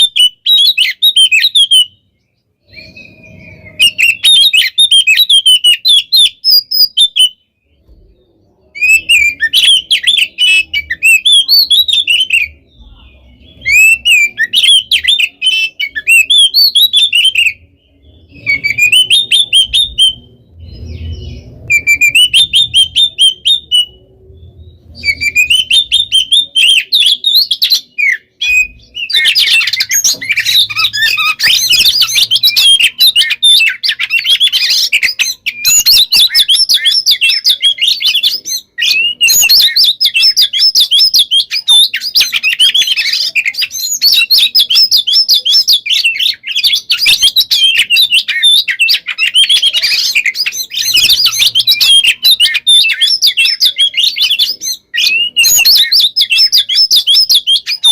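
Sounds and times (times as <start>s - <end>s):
bird singing whistled notes: 0.0s - 57.9s.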